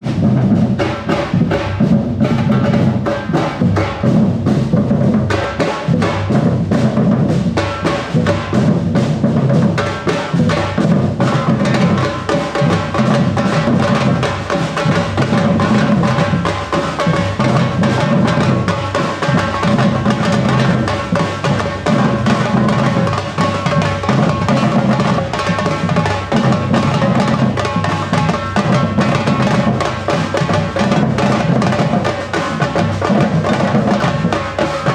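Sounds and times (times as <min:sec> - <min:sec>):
percussion ensemble groove: 0:00.0 - 0:34.9.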